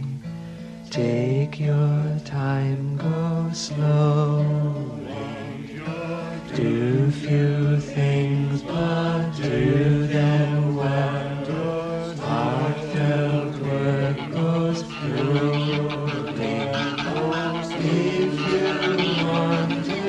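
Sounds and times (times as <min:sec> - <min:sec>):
voices singing a slow hymn: 0:00.0 - 0:20.0.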